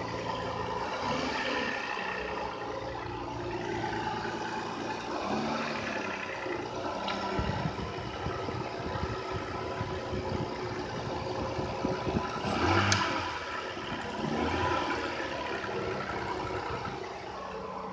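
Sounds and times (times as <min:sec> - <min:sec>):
car engine revving and idling: 0:00.0 - 0:17.9
engine knocking: 0:00.0 - 0:17.9.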